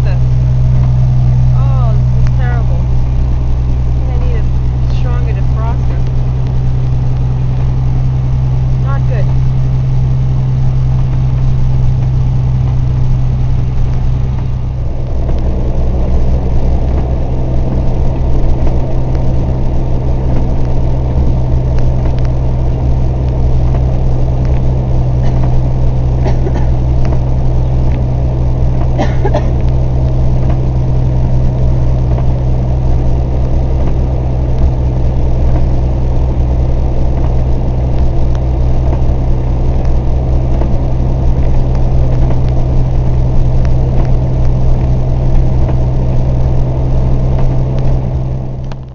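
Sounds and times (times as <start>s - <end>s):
road noise: 0.0s - 48.9s
truck engine low drone: 0.0s - 48.9s.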